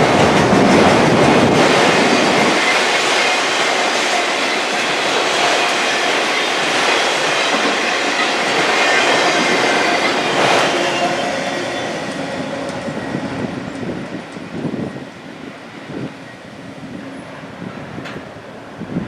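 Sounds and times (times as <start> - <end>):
freight train wheels clattering: 0.0 - 15.3.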